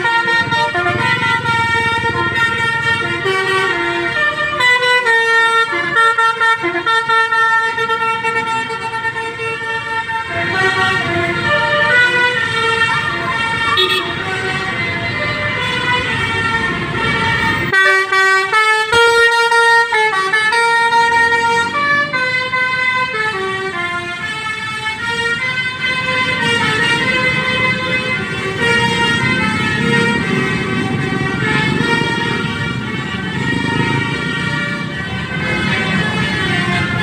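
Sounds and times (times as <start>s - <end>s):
bus musical horn tune: 0.0s - 37.0s
engine and road noise: 0.0s - 37.0s.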